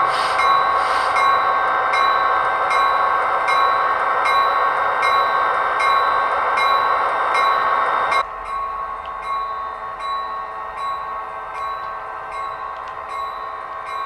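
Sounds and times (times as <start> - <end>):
model train mechanical hum: 0.0 - 14.0.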